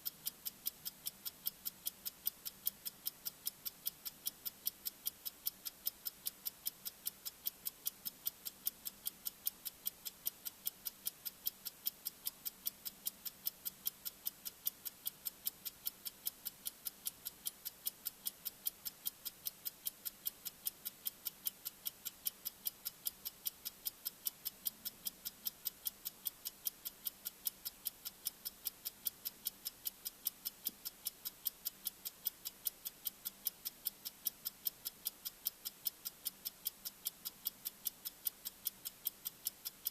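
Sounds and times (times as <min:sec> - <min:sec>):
fast high-pitched ticking: 0:00.0 - 0:39.9.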